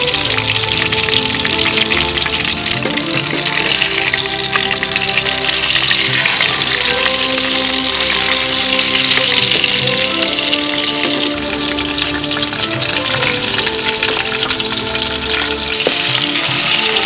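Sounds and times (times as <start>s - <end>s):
food sizzling in hot oil: 0.0s - 17.0s
soft background music: 0.0s - 17.0s.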